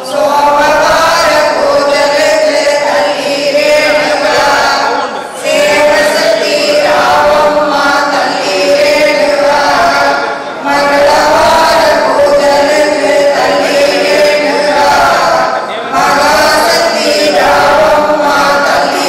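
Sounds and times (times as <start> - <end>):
voices chanting a hymn: 0.0 - 19.0.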